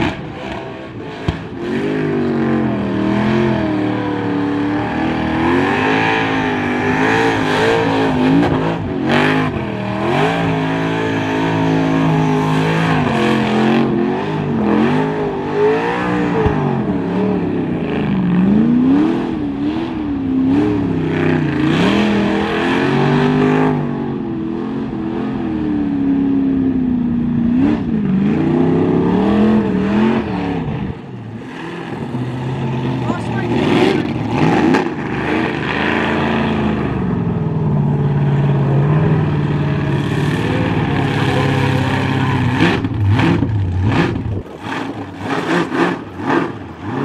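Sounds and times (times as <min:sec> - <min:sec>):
car engine revving hard: 0:00.0 - 0:26.2, 0:27.2 - 0:47.0.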